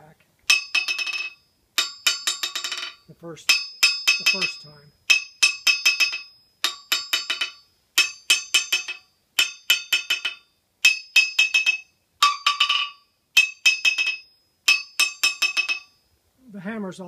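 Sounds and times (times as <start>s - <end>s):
hammer bouncing on anvil: 0.5s - 16.0s.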